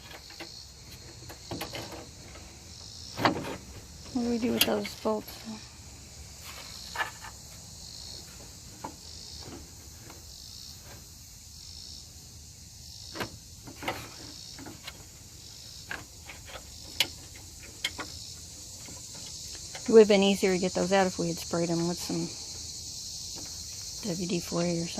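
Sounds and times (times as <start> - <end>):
constant high hiss: 0.0 - 24.9
insects chirping: 0.0 - 24.9.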